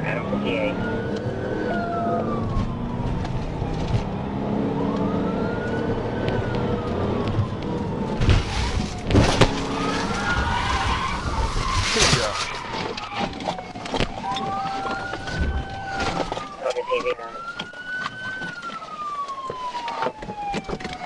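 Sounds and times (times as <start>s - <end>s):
car engine and road noise: 0.0s - 21.0s
police siren wailing: 0.0s - 21.0s.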